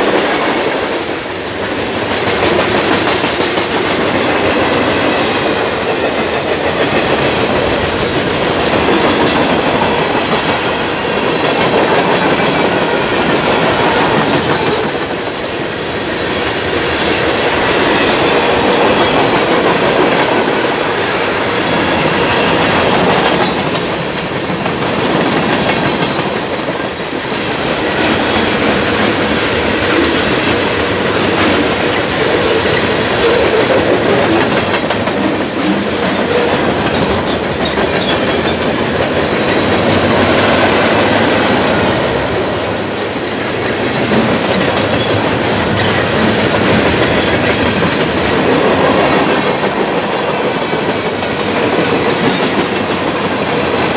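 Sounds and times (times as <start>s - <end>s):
freight train wheels rumbling on rails: 0.0s - 53.9s.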